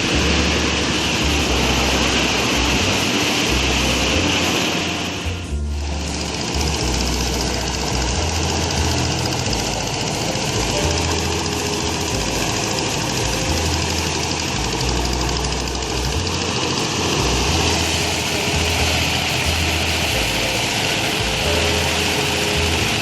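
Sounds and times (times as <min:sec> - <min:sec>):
low rumbling: 0:00.0 - 0:23.0
mechanical engine running noise: 0:00.0 - 0:23.0.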